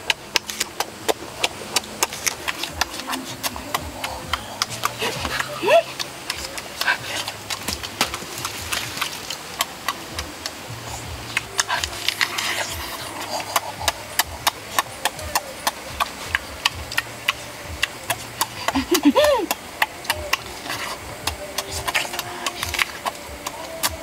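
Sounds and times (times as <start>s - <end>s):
wet chewing and lip-smacking: 0.0s - 24.0s.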